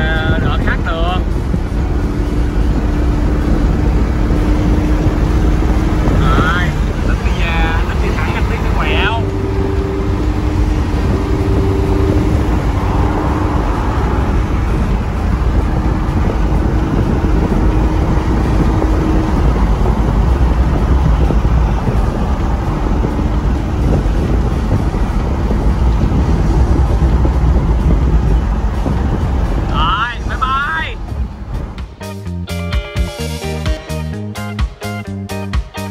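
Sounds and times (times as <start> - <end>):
car road and engine noise: 0.0 - 35.9.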